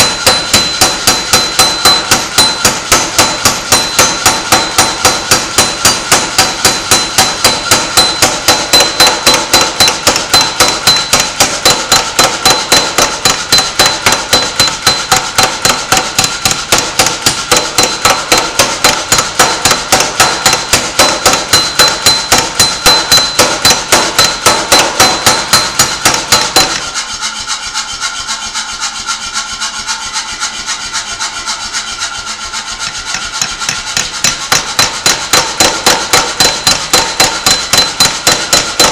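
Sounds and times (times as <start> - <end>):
hammer blows on metal: 0.0 - 27.2, 32.7 - 38.9
metallic ringing: 0.0 - 38.9.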